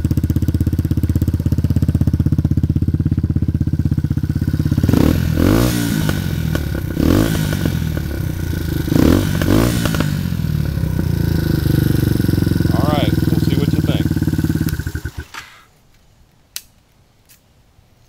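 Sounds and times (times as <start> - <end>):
motorcycle engine idling and revving: 0.0 - 15.6.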